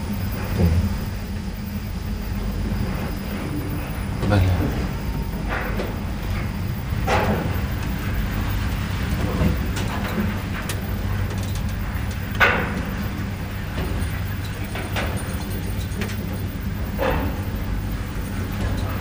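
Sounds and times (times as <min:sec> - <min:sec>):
lift mechanical hum: 0:00.0 - 0:19.0.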